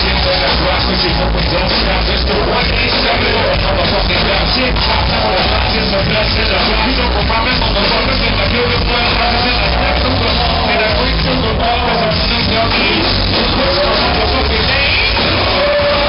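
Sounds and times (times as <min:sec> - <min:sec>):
live hip-hop band music: 0:00.0 - 0:16.0.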